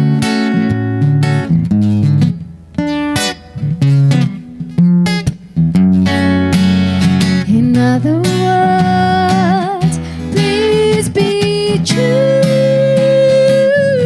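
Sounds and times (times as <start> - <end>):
acoustic guitar playing chords: 0.0 - 14.0.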